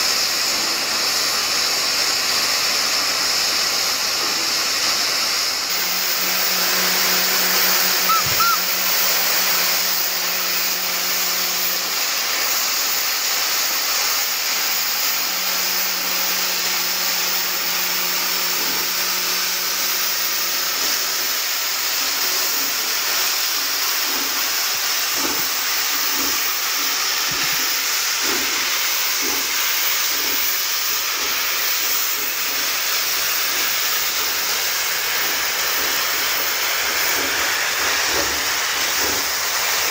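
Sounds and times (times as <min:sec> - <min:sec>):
steam locomotive hissing: 0:00.0 - 0:39.9
faint steam puffs: 0:00.1 - 0:39.9.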